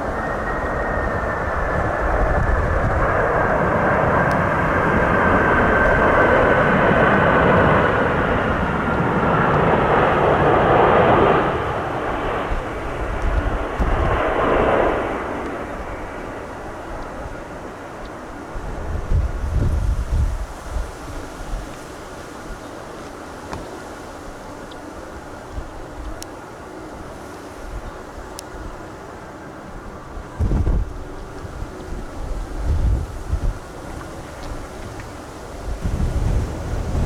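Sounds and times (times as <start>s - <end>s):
wind rumble on microphone: 0.0s - 26.3s, 29.8s - 37.0s
jet airliner passing low: 0.0s - 37.0s.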